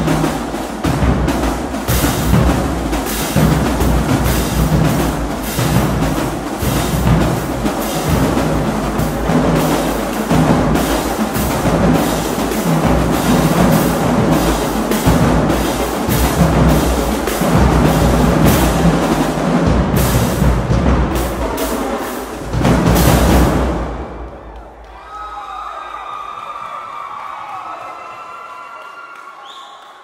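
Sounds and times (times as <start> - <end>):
marching drumline: 0.0 - 24.9
snare and cymbal hits: 0.0 - 24.9.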